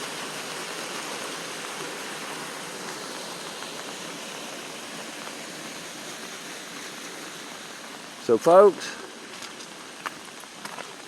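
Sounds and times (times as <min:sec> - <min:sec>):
water rushing out of outflow: 0:00.0 - 0:11.0.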